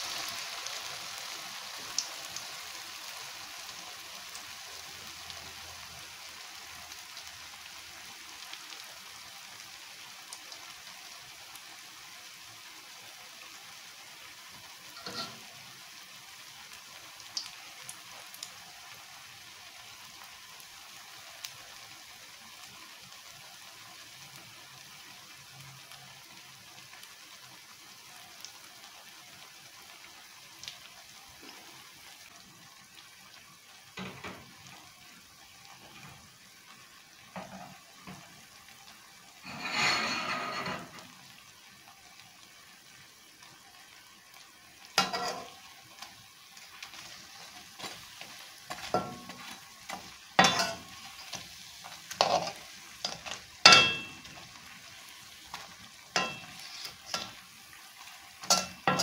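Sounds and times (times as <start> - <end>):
fritters sizzling in oil: 0.0 - 59.0.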